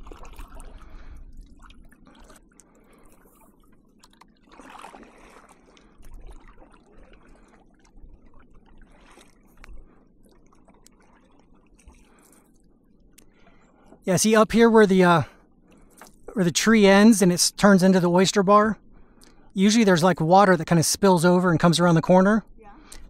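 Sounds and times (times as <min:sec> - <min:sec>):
paddle splashing water: 0:00.0 - 0:22.2.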